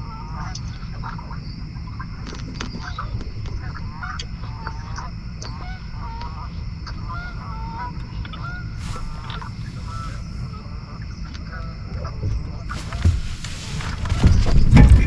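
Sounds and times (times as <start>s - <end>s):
bird calls: 0.0s - 15.0s.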